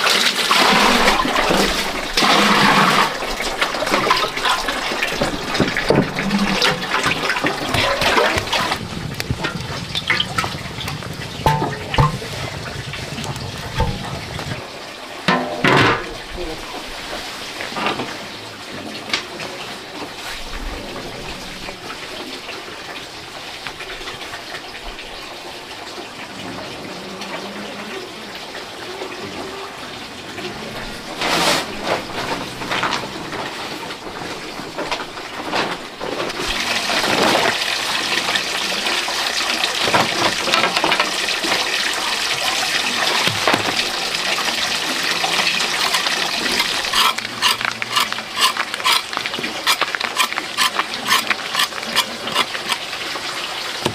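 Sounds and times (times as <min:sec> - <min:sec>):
water running and splashing: 0:00.0 - 0:53.9.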